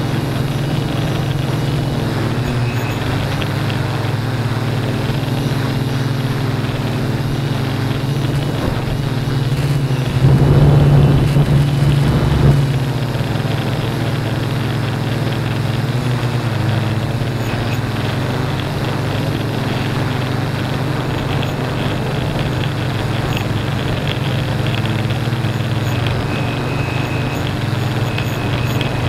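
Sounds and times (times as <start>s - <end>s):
drone propellers buzzing: 0.0s - 29.0s.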